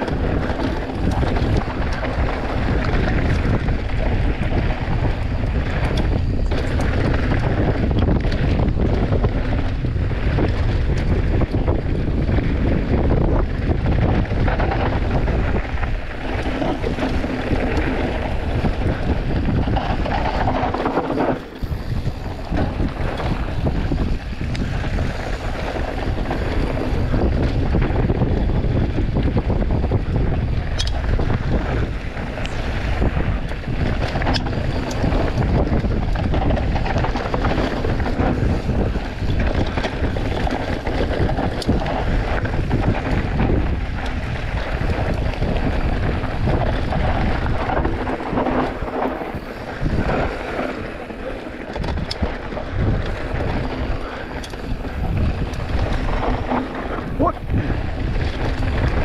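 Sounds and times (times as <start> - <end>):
bike tyres rolling on dirt: 0.0 - 59.0
wind rushing over microphone: 0.0 - 59.0.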